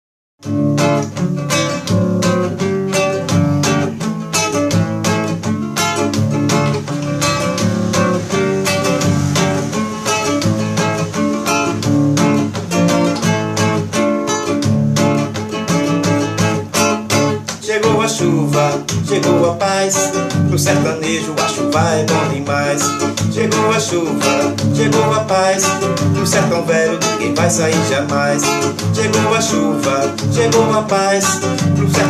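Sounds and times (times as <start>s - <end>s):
strummed acoustic guitar: 0.4s - 32.0s.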